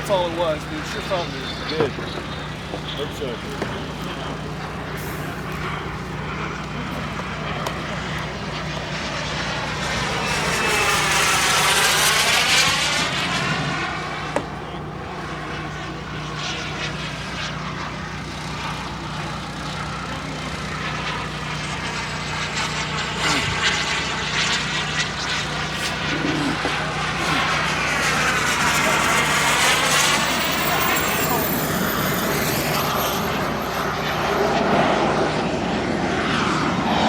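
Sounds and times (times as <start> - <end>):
model jet flying past: 0.0 - 37.0.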